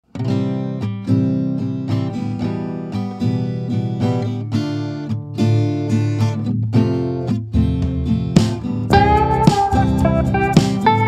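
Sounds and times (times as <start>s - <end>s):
strummed acoustic guitar chords: 0.1s - 11.0s.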